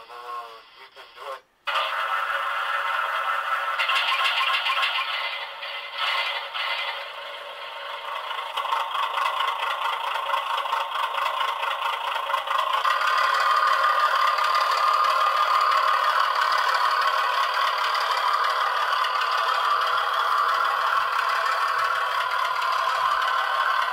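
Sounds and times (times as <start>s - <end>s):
model locomotive rattling whir: 1.7s - 23.9s.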